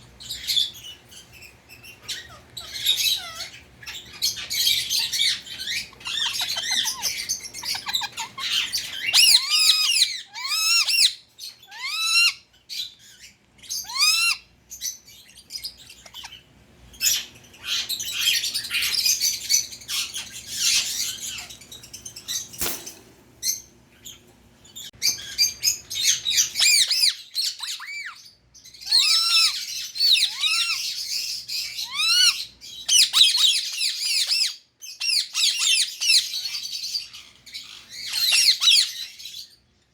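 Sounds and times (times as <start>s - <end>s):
parakeet squawking and screeching: 0.2s - 22.7s, 23.4s - 39.6s.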